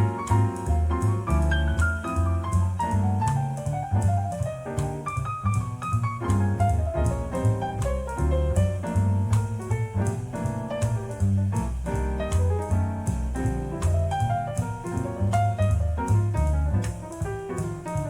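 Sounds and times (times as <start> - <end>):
double bass notes: 0.0 - 18.0
jazz piano runs: 0.0 - 18.0.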